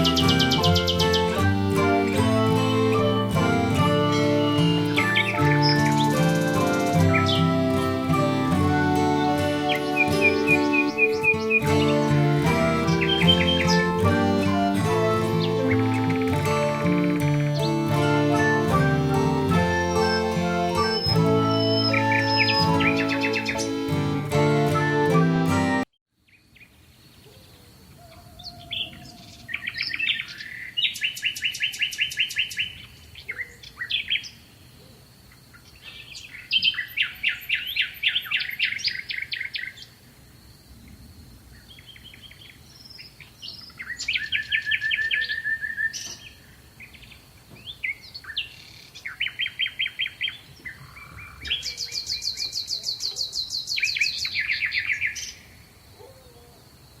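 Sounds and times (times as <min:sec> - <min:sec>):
songbird singing trills: 0:00.0 - 0:24.0, 0:26.3 - 0:34.4, 0:35.5 - 0:40.0, 0:41.6 - 0:56.5.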